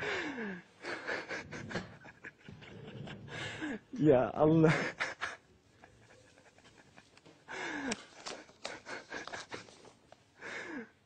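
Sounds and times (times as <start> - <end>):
man laughing breathlessly: 0.0 - 3.9, 4.6 - 10.9.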